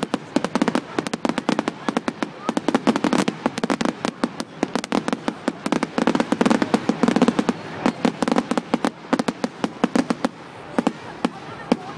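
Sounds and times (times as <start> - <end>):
fireworks cracking and popping: 0.0 - 11.9.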